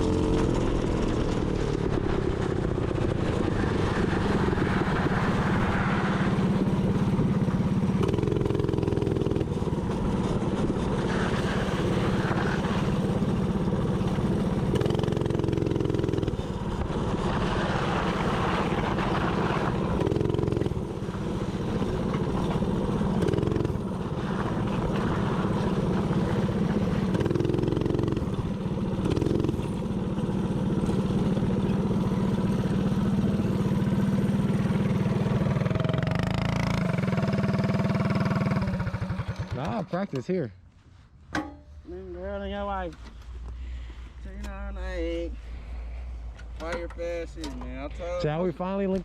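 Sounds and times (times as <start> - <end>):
small engine running: 0.0 - 39.8.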